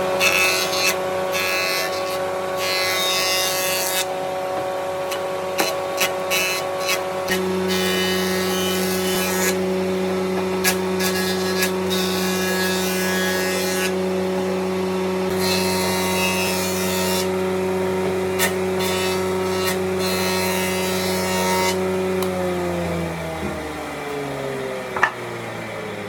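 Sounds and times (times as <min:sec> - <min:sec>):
electric power tool cutting wood: 0:00.0 - 0:25.1.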